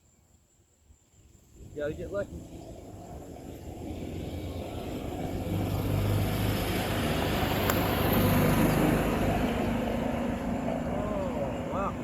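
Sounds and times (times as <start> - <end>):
vehicle engine humming: 1.5 - 12.0.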